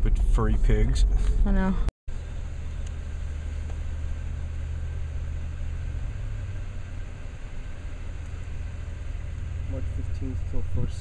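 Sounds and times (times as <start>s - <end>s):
car engine rumbling from inside: 0.0s - 11.0s.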